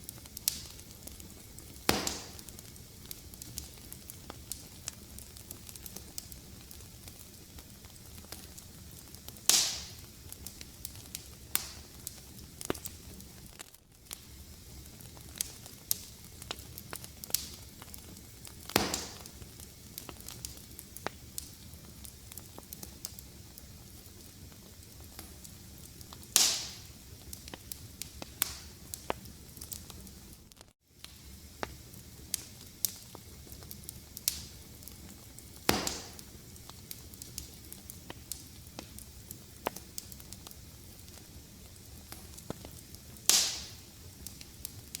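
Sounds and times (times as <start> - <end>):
fire crackling: 0.0 - 45.0
loud fire pops hissing: 0.0 - 45.0.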